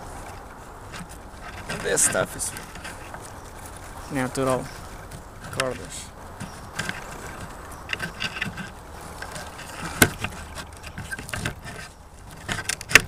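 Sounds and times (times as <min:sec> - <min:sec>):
lashing handling rustles: 0:00.0 - 0:13.0.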